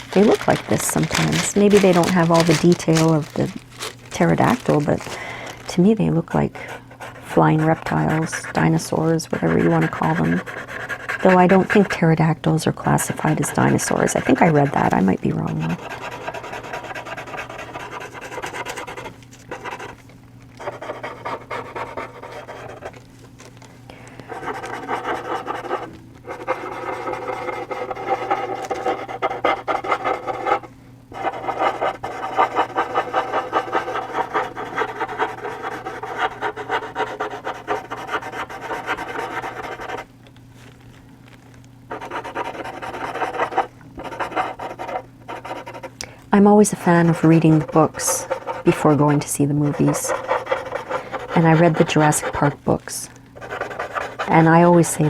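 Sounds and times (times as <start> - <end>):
blending stump rubbing on paper: 0.0 - 5.2, 6.1 - 12.1, 12.8 - 20.0, 20.6 - 23.0, 24.3 - 40.1, 41.9 - 45.9, 46.5 - 55.0.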